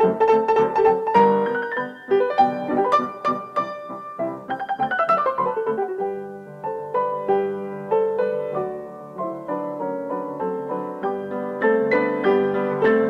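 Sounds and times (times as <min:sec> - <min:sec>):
piano playing: 0:00.0 - 0:13.0.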